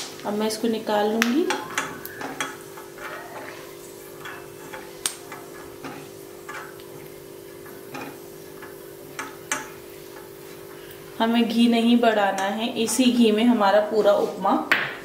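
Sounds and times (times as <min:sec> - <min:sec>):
spatula scraping and tapping pan: 0:01.1 - 0:14.4.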